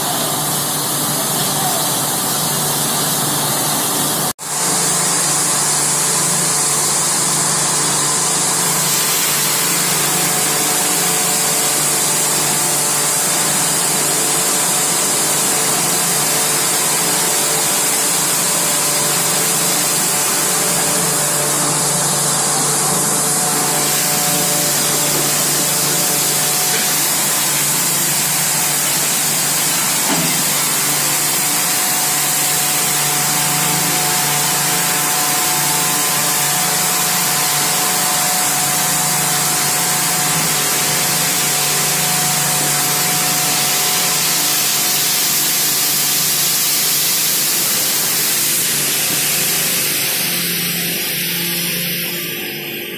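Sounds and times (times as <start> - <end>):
machinery hum: 0.0 - 52.9.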